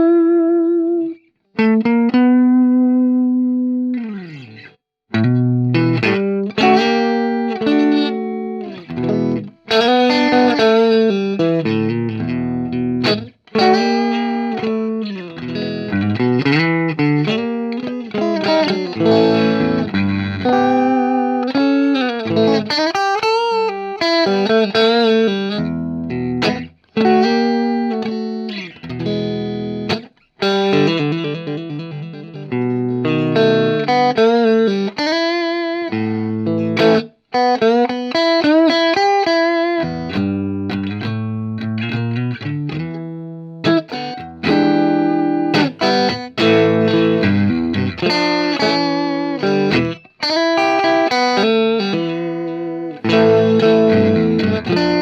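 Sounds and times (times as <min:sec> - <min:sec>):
solo guitar plucked notes: 0:00.0 - 0:55.0.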